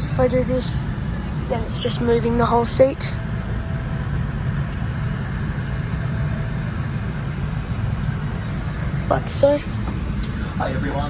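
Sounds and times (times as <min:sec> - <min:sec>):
aircraft cabin air-conditioning rumble: 0:00.0 - 0:11.0.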